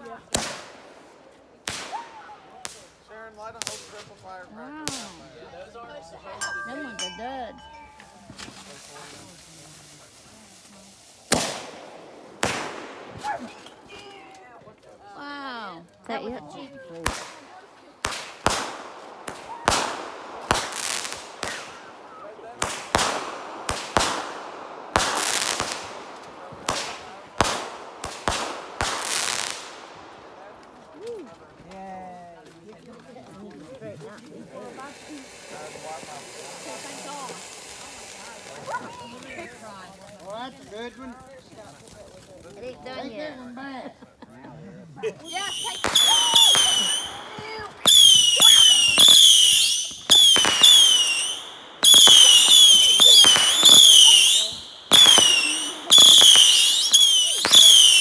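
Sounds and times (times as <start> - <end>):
fireworks bursting: 0.0 - 5.5, 6.2 - 14.9, 15.8 - 31.6, 34.0 - 42.9, 45.2 - 58.0.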